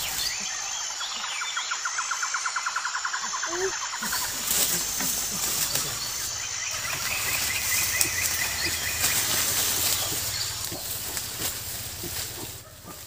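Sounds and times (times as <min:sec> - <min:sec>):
hiss of insects: 0:00.0 - 0:13.0.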